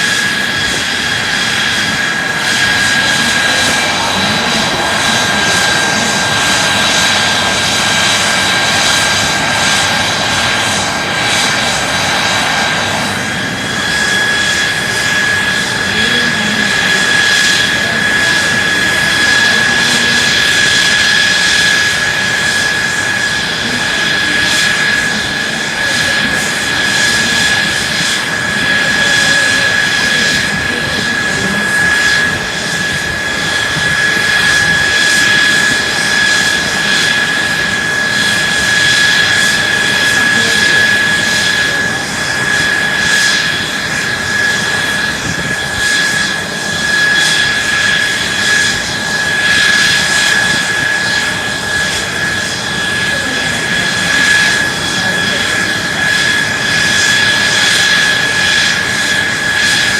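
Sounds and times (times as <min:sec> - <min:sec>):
jet engine whine and rush: 0:00.0 - 0:59.9.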